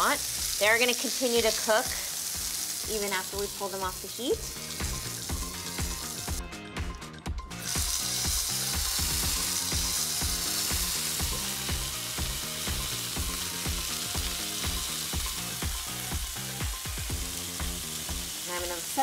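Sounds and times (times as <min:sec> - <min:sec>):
steak sizzling in a skillet: 0:00.0 - 0:06.4, 0:07.6 - 0:19.0.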